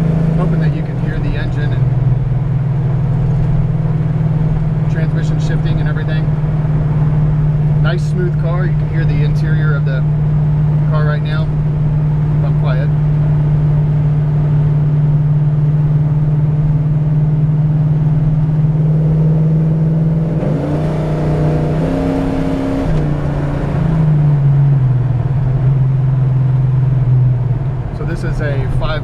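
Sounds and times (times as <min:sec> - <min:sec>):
car engine drone from inside: 0:00.0 - 0:29.0.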